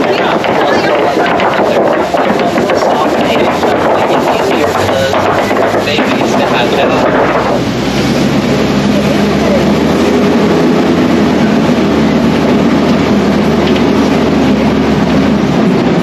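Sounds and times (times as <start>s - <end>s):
truck engine hum: 0.0s - 16.0s
wheels rumbling on a track: 0.0s - 16.0s.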